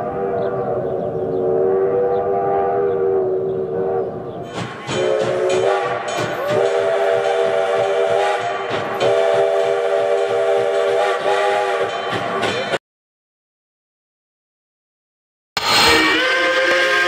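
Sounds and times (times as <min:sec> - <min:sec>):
moving train noise: 0:00.0 - 0:12.8, 0:15.6 - 0:17.0
steam locomotive chime whistle: 0:00.0 - 0:12.8, 0:15.6 - 0:17.0.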